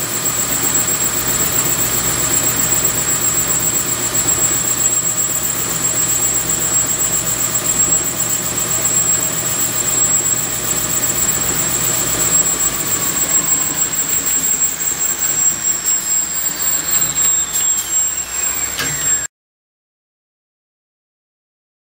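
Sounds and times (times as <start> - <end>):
belt sander high whine: 0.0 - 19.3
whine falling in pitch: 0.2 - 19.3.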